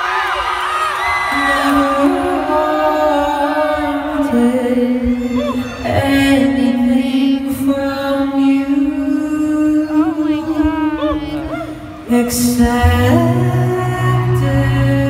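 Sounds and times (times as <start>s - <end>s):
a cappella group singing: 1.3s - 11.5s, 12.1s - 15.0s.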